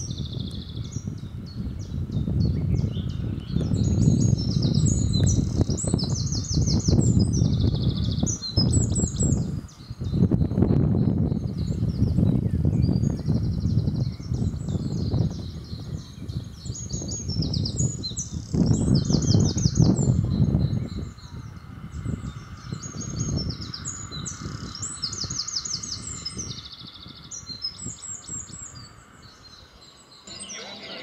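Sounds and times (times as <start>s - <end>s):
birds chirping and trilling: 0.0s - 31.0s.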